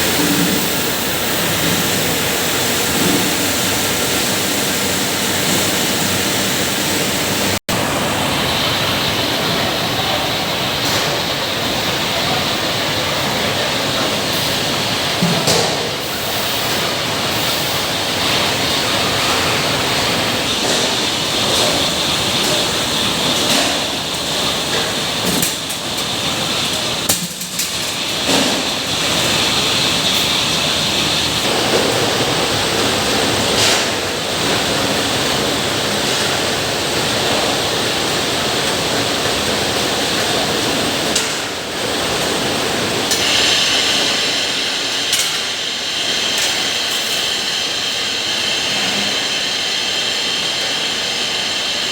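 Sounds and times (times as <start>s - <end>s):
water rushing in washing machine: 0.0s - 51.9s.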